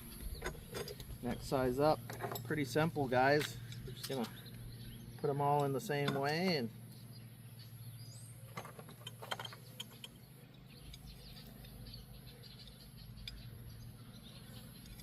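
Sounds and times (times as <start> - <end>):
low steady hum: 0.0 - 15.0
light clicks and taps of metal parts: 0.3 - 7.0, 8.5 - 13.8, 14.5 - 15.0.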